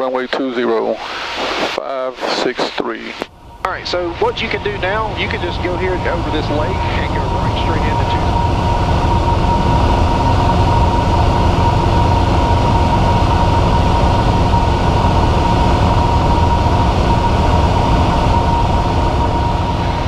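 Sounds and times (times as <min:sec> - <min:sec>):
propeller plane engine droning: 0:03.0 - 0:20.0.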